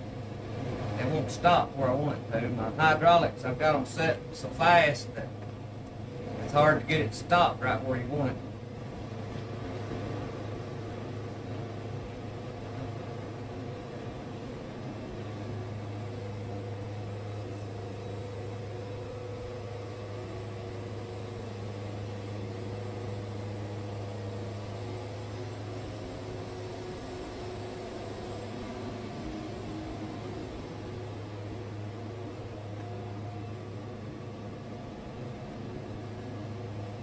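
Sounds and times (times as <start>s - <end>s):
sawmill engine droning: 0.0s - 37.0s.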